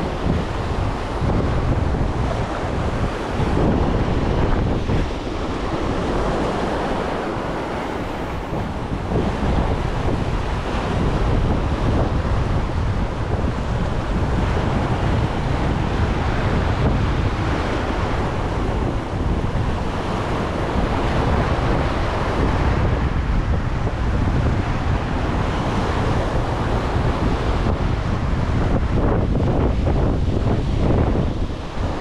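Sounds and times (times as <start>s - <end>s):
sea waves washing: 0.0s - 32.0s
wind buffeting microphone: 0.0s - 32.0s.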